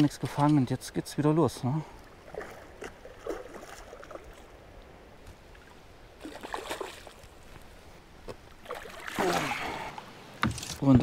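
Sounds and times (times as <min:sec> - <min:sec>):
faint wash of water and wind: 0:00.0 - 0:11.0.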